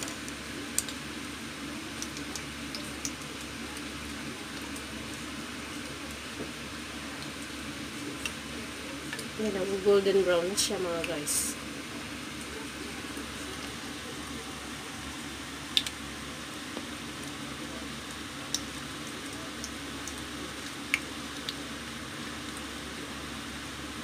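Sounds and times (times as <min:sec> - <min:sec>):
food deep-frying sizzling: 0:00.0 - 0:24.0.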